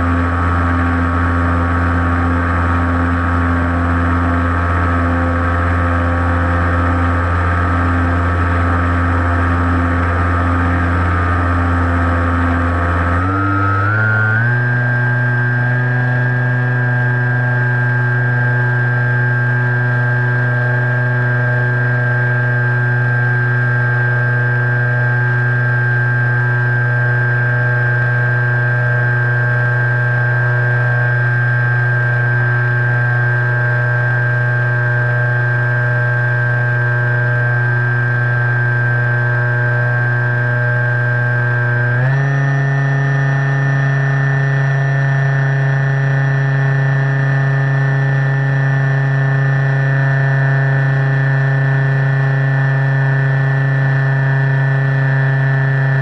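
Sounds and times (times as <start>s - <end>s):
model airplane motor and propeller: 0.0s - 56.0s.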